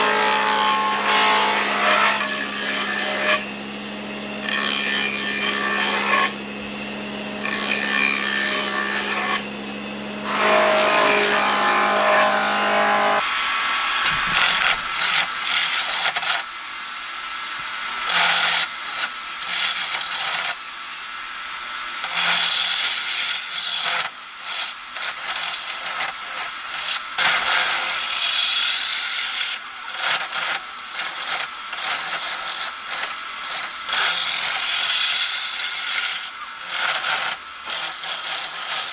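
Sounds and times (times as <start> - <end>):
gouge cutting wood on lathe: 0.0 - 3.5, 4.4 - 6.4, 7.4 - 9.5, 10.2 - 13.3, 14.0 - 16.5, 17.8 - 20.6, 22.0 - 38.9.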